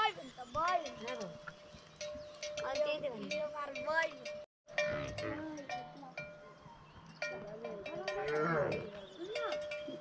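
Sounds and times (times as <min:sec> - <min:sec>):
cattle bells clanking: 0:00.5 - 0:10.0.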